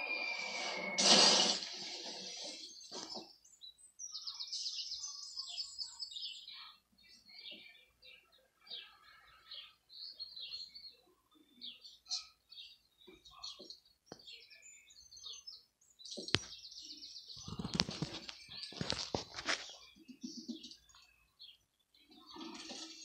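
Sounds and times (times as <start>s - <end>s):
birds chirping on television: 0.0s - 23.0s.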